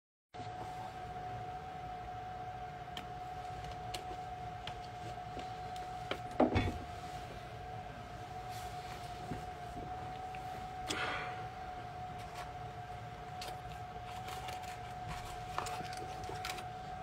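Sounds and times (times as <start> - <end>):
low hum: 0.4 - 17.0
steady electrical whine: 0.4 - 17.0.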